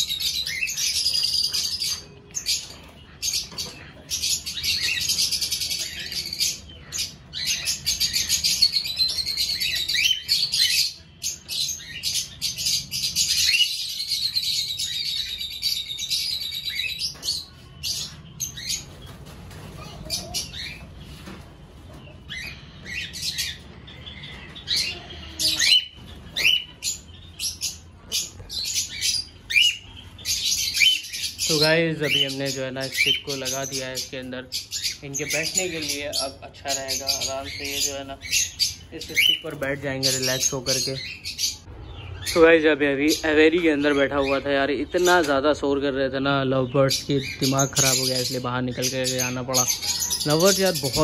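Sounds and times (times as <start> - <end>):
parrots chirping and chattering: 0.0 - 51.0.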